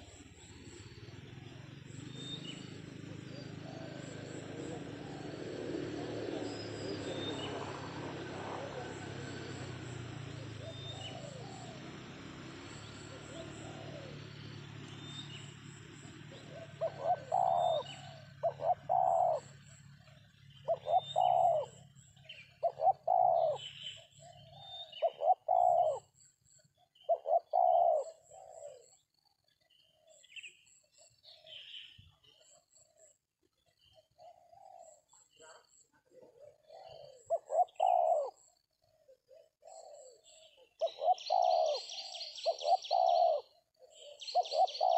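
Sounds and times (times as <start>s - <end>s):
dove cooing: 0.0s - 29.1s, 29.8s - 44.9s.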